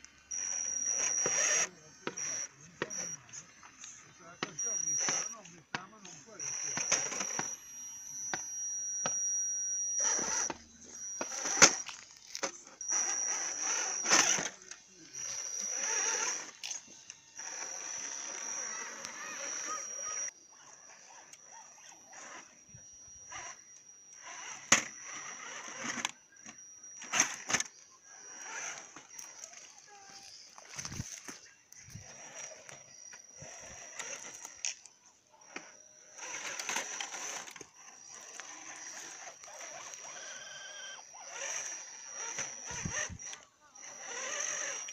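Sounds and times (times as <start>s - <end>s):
electric motor whining: 0.0s - 44.9s.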